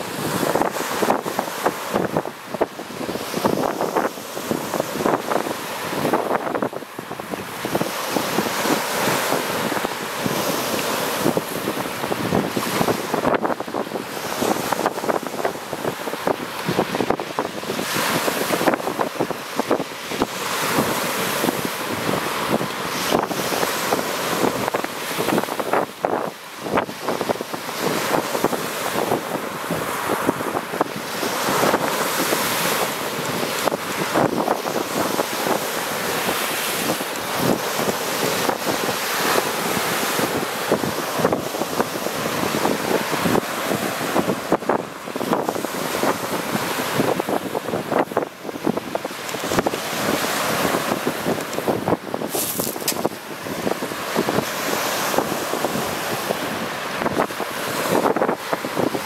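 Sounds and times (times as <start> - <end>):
surf breaking on pebble beach: 0.0 - 59.0
wind buffeting microphone: 0.0 - 59.0.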